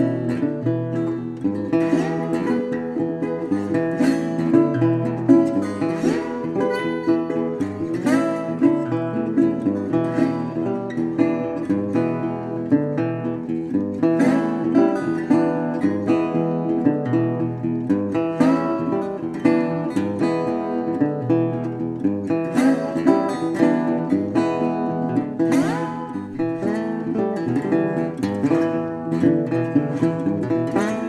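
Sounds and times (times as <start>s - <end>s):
acoustic guitar plucked and strummed: 0.0s - 31.0s.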